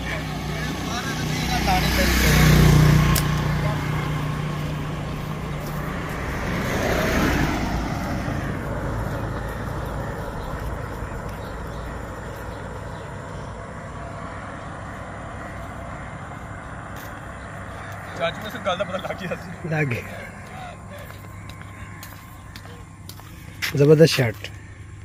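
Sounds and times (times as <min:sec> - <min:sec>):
vehicle passing close by: 0:00.0 - 0:23.0
distant road traffic hum: 0:00.0 - 0:25.0.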